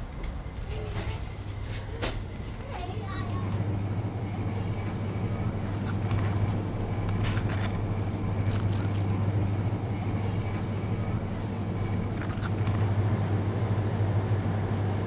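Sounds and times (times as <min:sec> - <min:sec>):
refrigerator electrical hum: 0:00.0 - 0:15.0.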